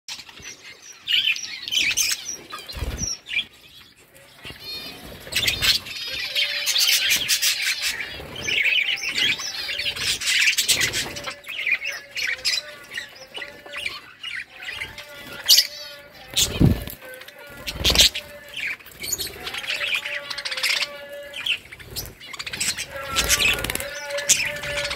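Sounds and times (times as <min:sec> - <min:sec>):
budgerigars chattering and chirping: 0:00.1 - 0:24.9.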